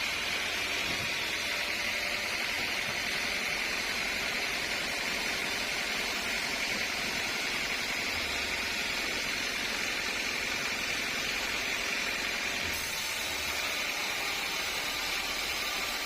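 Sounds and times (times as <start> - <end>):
sawmill machinery hissing: 0.0 - 16.0.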